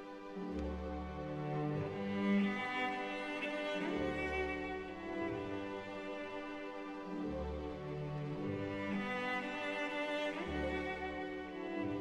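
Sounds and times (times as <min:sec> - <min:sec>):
bowed strings music: 0:00.0 - 0:12.0.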